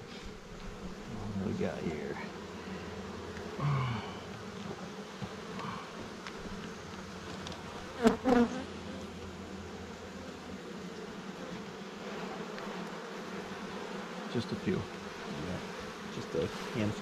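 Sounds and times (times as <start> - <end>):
honey bee swarm humming: 0.0 - 17.0.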